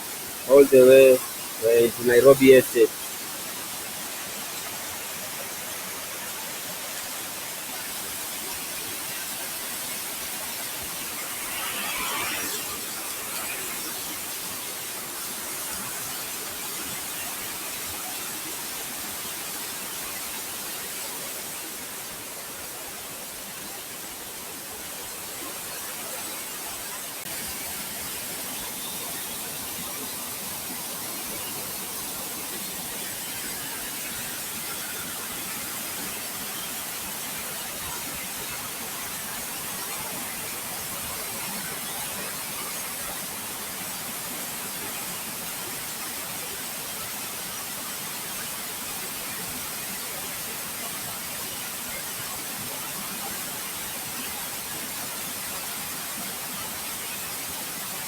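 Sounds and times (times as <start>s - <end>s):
river water rushing: 0.1s - 51.0s.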